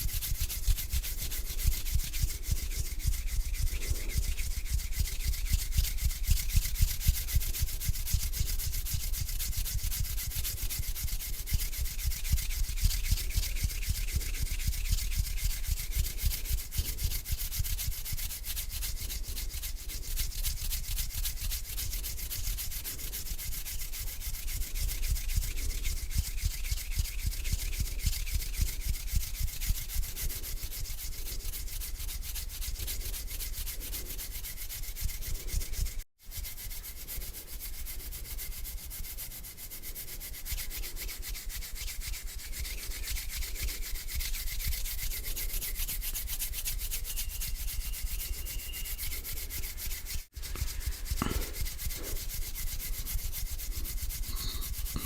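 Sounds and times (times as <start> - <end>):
hands rubbing together: 0.0 - 55.0.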